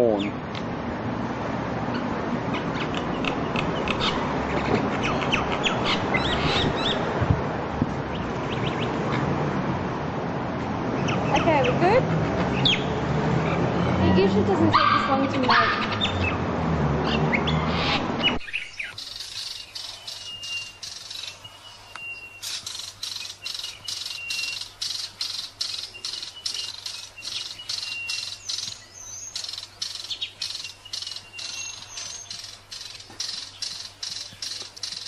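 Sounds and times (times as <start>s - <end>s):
bird chirping: 1.9s - 7.1s, 8.1s - 9.2s, 11.0s - 14.5s, 15.1s - 16.4s, 17.0s - 35.0s.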